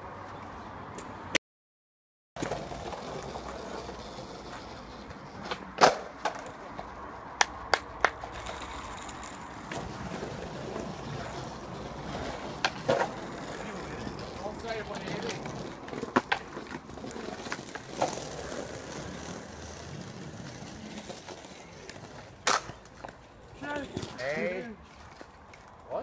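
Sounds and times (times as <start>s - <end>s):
skateboard clacking on ground: 2.4s - 25.9s
skateboard wheels rolling on paving: 2.4s - 26.0s.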